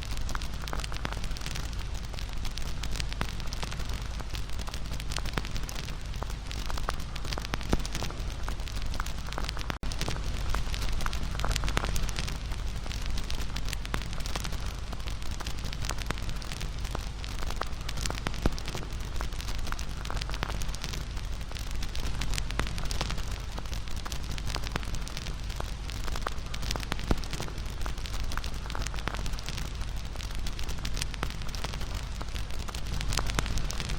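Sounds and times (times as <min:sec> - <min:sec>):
bonfire crackling: 0:00.0 - 0:33.9.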